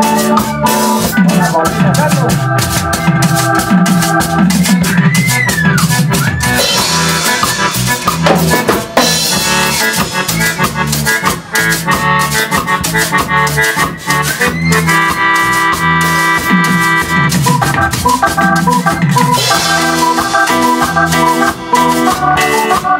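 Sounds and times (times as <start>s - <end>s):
drum kit: 0.0s - 22.9s
electric bass: 0.0s - 22.9s
electronic keyboard melody: 0.0s - 22.9s.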